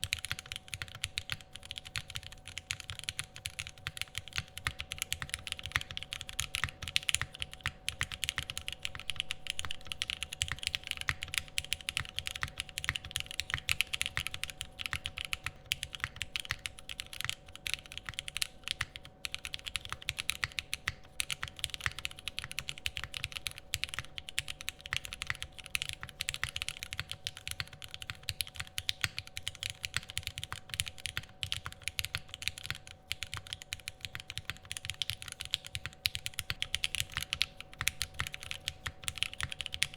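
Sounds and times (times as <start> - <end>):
faint steady hum: 0.0 - 39.9
mechanical keyboard typing: 0.0 - 39.9.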